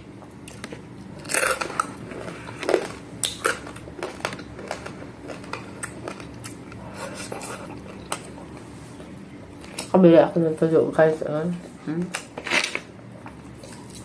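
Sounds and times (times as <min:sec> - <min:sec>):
crunchy food being chewed: 0:00.1 - 0:10.0, 0:12.4 - 0:14.0.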